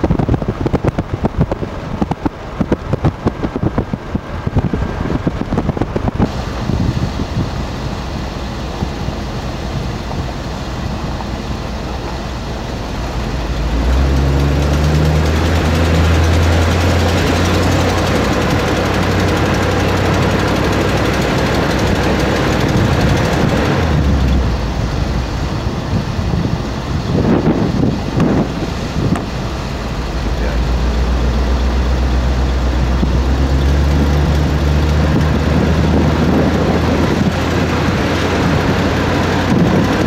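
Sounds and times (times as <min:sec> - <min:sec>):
tyre and wind noise: 0:00.0 - 0:30.4, 0:31.7 - 0:40.0
vehicle engine running: 0:00.0 - 0:40.0.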